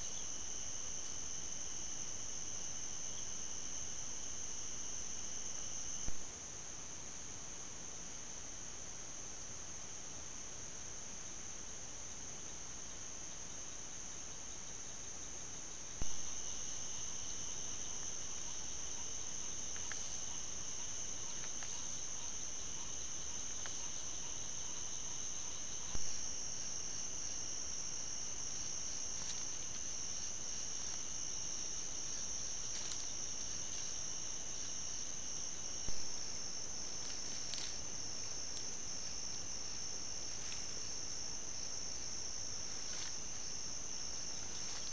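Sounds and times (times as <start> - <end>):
night insects trilling: 0.0 - 44.9.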